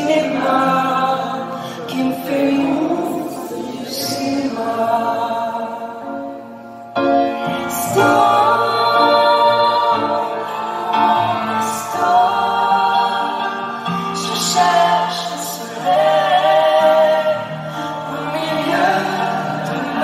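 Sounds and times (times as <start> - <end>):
person singing into microphone: 0.0 - 6.4, 7.3 - 20.0
live pop music accompaniment: 0.0 - 20.0.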